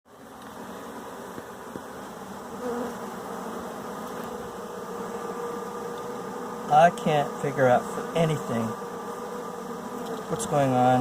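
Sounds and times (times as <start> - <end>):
bee buzzing past close: 0.1 - 11.0
bees buzzing: 0.1 - 11.0.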